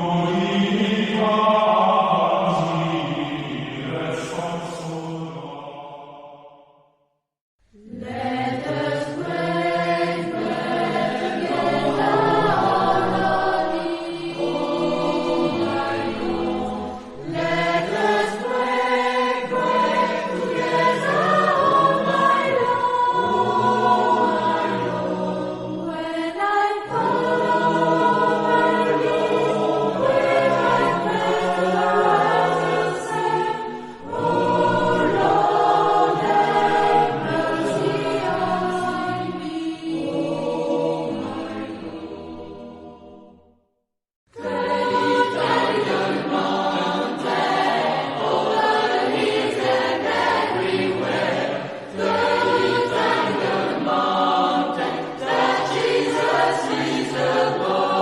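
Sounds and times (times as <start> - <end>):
choir singing sacred music: 0.0 - 6.9, 7.7 - 43.6, 44.3 - 58.0.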